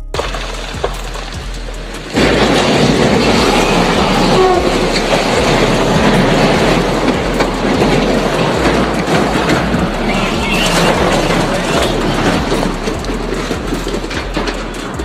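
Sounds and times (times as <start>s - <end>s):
train rumbling on rails: 0.2s - 15.0s.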